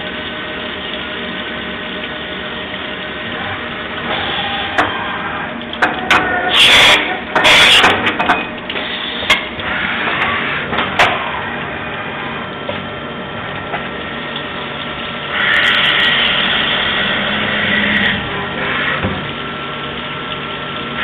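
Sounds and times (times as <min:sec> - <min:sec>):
machining centre running: 0:00.0 - 0:21.0.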